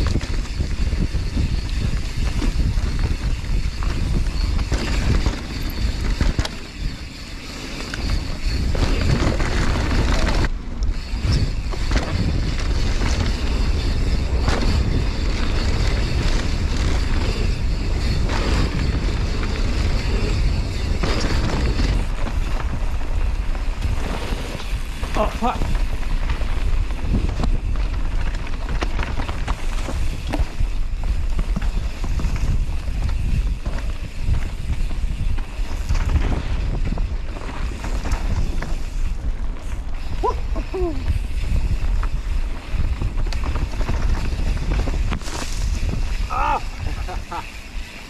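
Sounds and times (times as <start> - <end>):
bike knocking and rattling: 0.0 - 48.0
tyres rumbling over dirt trail: 0.0 - 48.0
wind buffeting microphone: 0.0 - 48.0.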